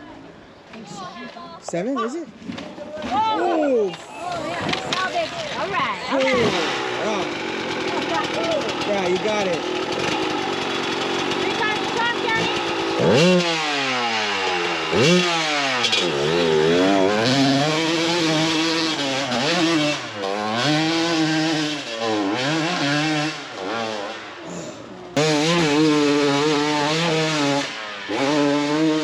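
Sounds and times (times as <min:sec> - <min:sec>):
motorcycle engine revving: 0:04.4 - 0:29.0.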